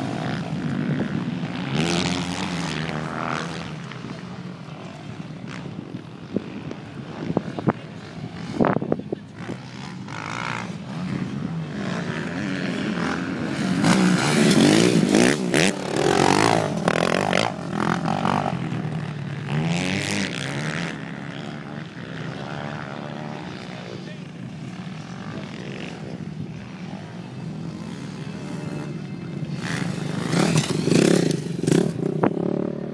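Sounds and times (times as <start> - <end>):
motocross bikes revving: 0.0 - 32.9.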